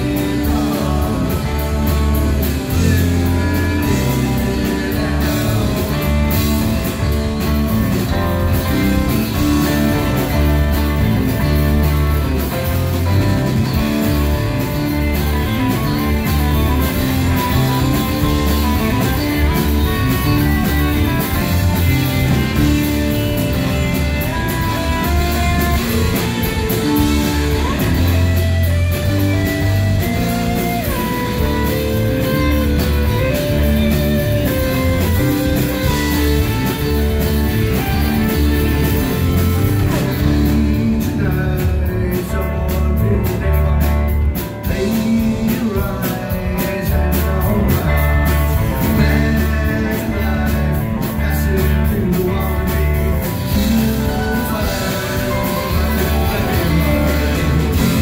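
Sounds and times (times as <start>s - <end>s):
drum kit with cymbals: 0.0s - 58.0s
electric bass: 0.0s - 58.0s
electric guitar: 0.0s - 58.0s.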